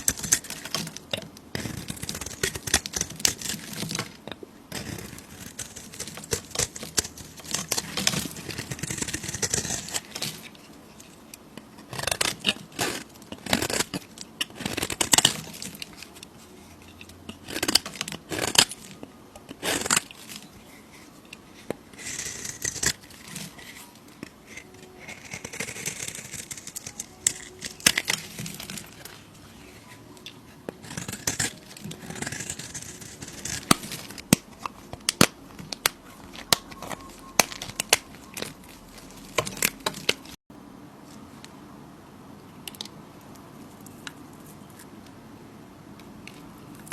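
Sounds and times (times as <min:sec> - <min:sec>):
knife cutting soap: 0:00.0 - 0:40.3.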